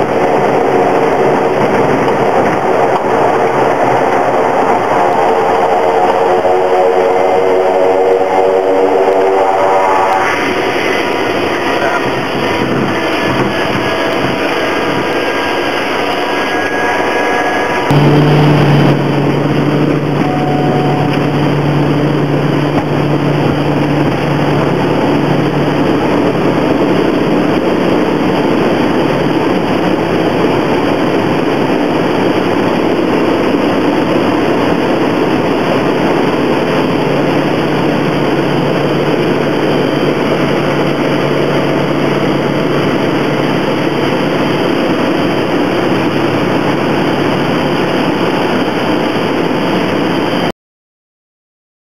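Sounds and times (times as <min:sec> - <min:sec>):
turboprop engine and propeller: 0:00.0 - 0:50.5.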